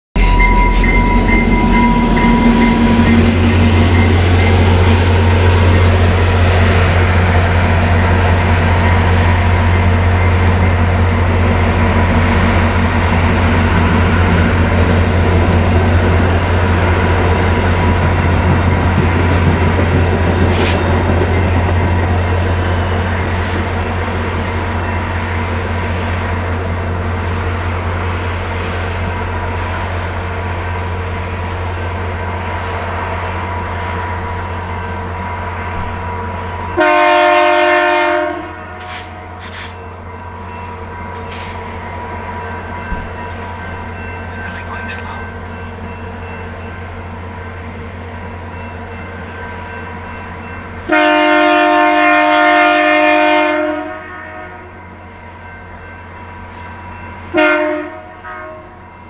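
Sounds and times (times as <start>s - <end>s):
train rumbling on rails: 0.2s - 59.0s.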